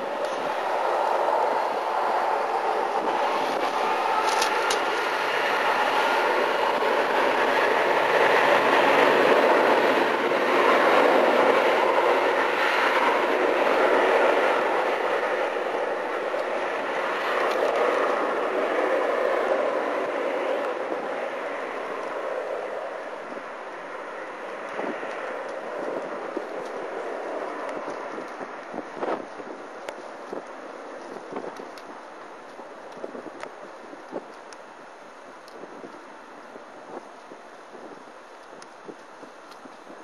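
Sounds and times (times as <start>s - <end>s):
jet engines rushing and whining: 0.0s - 40.0s.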